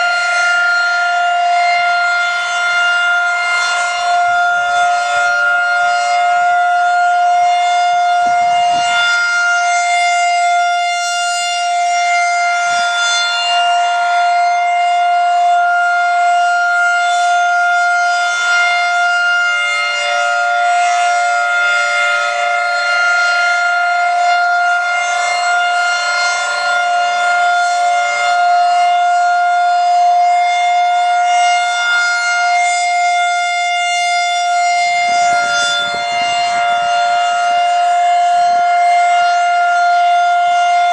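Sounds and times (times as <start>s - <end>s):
rotating storm siren steady tone: 0.0s - 40.9s.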